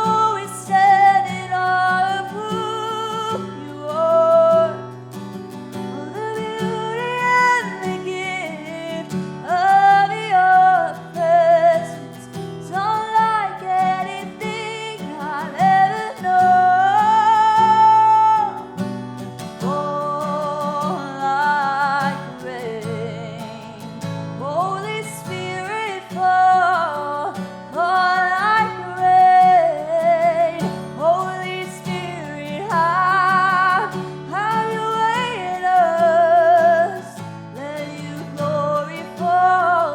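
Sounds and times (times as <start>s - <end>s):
strummed acoustic guitar: 0.0s - 39.9s.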